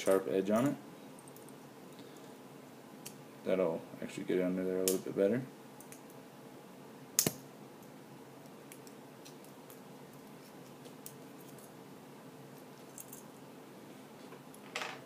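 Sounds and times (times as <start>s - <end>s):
steady faint hum: 0.0s - 15.0s.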